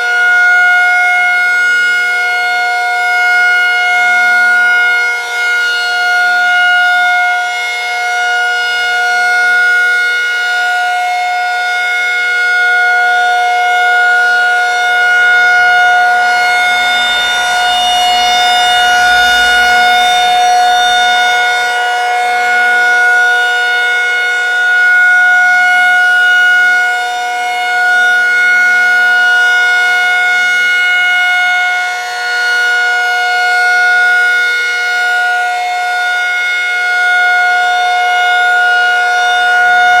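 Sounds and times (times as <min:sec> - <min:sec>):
rotating warning siren: 0:00.0 - 0:40.0.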